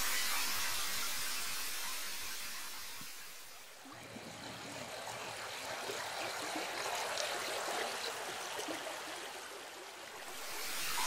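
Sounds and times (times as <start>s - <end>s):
stream trickling and splashing: 0.0s - 11.0s.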